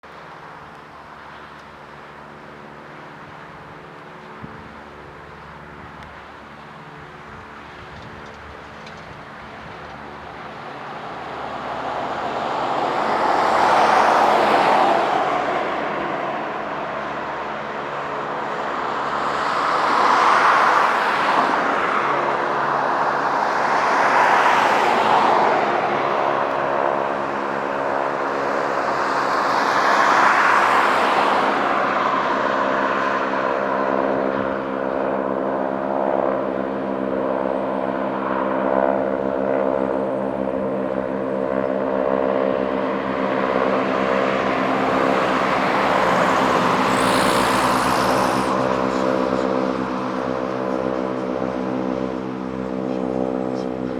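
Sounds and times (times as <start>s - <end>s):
propeller planes flying by: 0.0s - 53.9s
steady engine drone: 0.0s - 53.9s.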